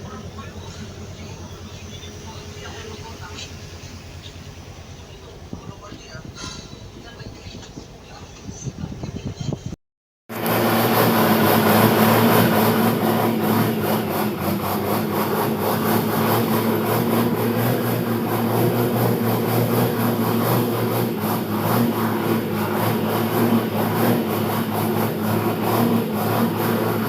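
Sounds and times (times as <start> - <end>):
road and wind noise: 0.0 - 27.0
vehicle engine humming: 0.0 - 27.0.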